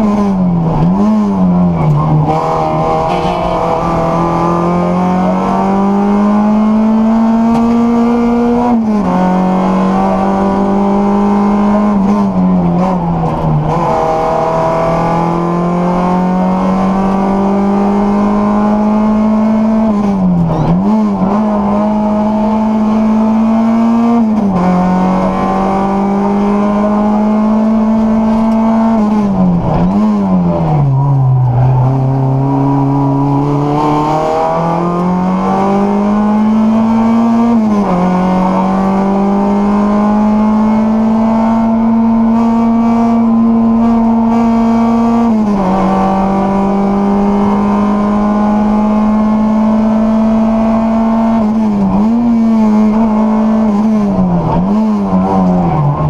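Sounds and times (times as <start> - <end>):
car engine at high revs: 0.0 - 56.0.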